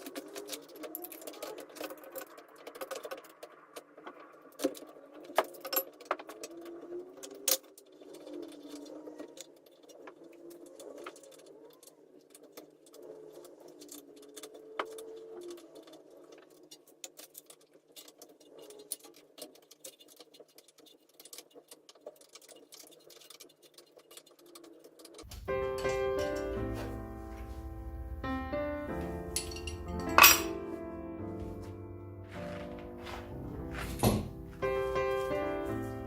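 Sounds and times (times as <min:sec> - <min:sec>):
hand tools and metal parts clicking: 0:00.0 - 0:27.5, 0:29.1 - 0:30.7, 0:32.3 - 0:35.8.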